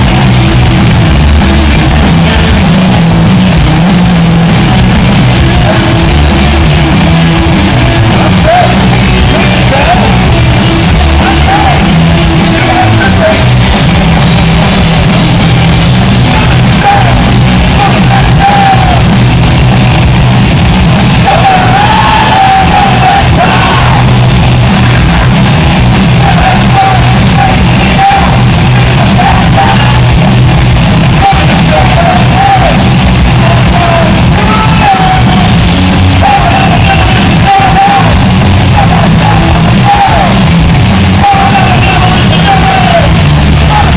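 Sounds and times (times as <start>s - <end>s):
punk rock band playing: 0.0s - 43.9s
shouted lead vocal: 0.0s - 43.9s.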